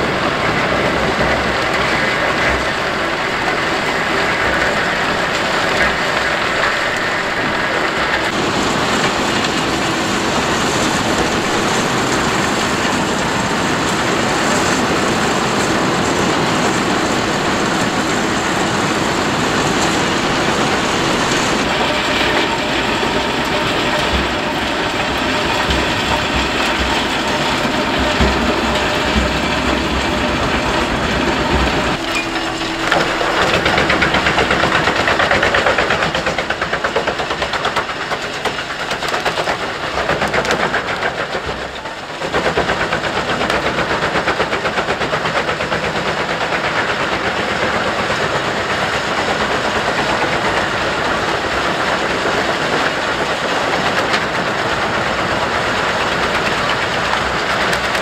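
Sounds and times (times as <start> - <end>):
wood chipper chipping logs: 0.0 - 58.0.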